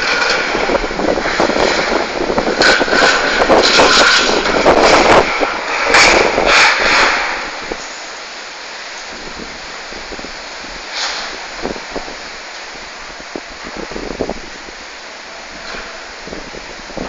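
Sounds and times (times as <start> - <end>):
gusty storm wind roar: 0.0 - 17.0.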